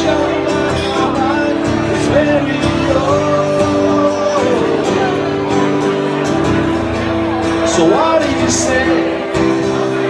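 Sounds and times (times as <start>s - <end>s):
man singing: 0.0s - 10.0s
strummed acoustic guitar: 0.0s - 10.0s.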